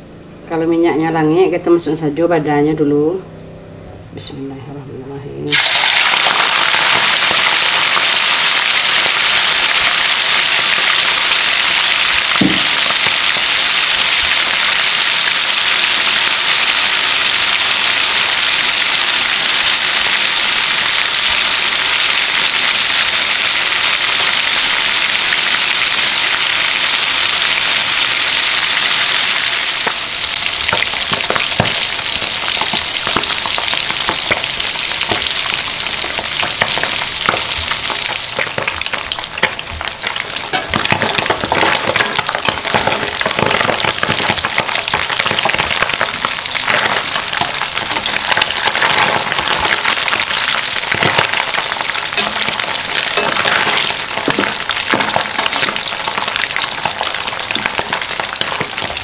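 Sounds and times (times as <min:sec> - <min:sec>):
fish frying in hot oil: 0:05.5 - 0:59.0.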